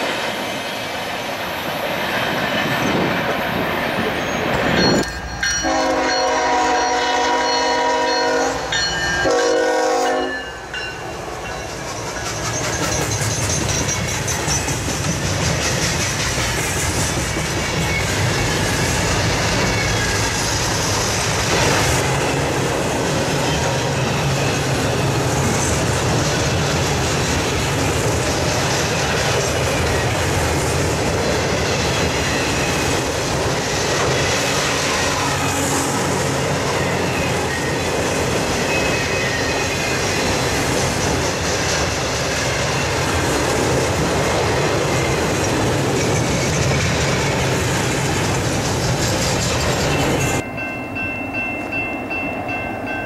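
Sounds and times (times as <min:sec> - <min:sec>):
train wheels rumbling on rails: 0:00.0 - 0:50.6.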